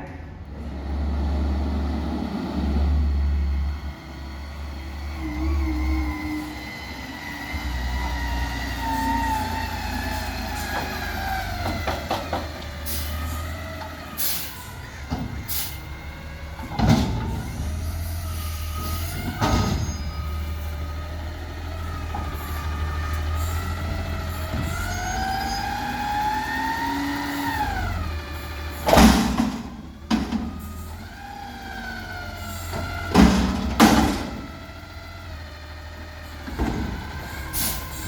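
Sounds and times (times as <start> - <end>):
engine whine: 0.0 - 38.0
garbage truck diesel engine revving: 0.3 - 38.0.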